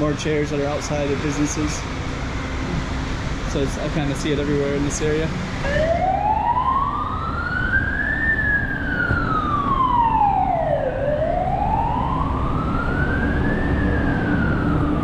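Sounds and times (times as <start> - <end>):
emergency siren wailing: 2.5 - 15.0.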